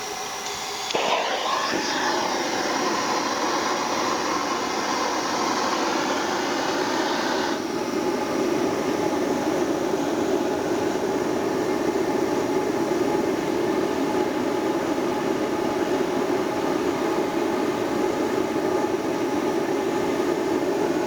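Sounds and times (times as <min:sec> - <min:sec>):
gas burner flame roaring: 0:00.0 - 0:21.0.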